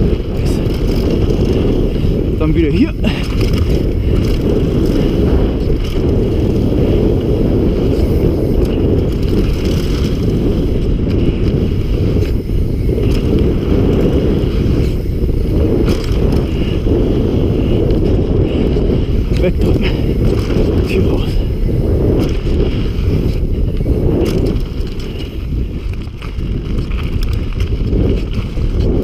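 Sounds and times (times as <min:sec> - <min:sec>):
bike knocks and rattles: 0:00.0 - 0:29.0
knobbly tyres on dirt: 0:00.0 - 0:29.0
wind buffeting microphone: 0:00.0 - 0:29.0.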